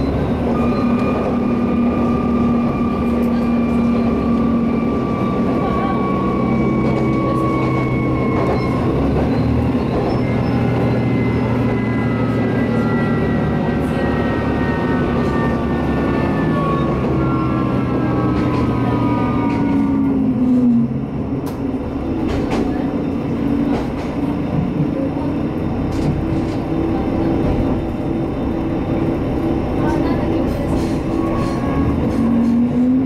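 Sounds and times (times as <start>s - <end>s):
diesel railcar engine drone: 0.0s - 33.0s.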